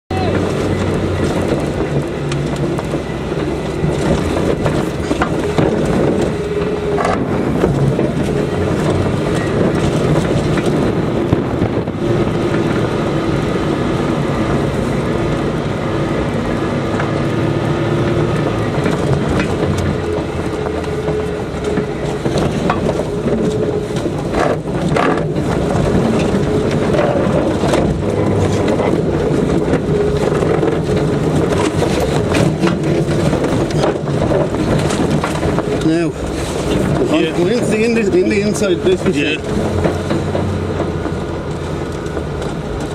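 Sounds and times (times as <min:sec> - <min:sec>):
off-road vehicle engine under load: 0:00.0 - 0:42.9
vehicle rattling over rough ground: 0:00.1 - 0:42.9.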